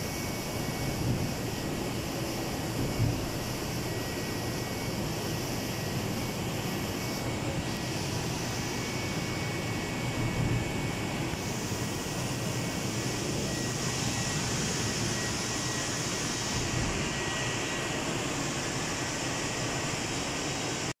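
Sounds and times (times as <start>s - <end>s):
printing machine whir and hiss: 0.0s - 21.0s.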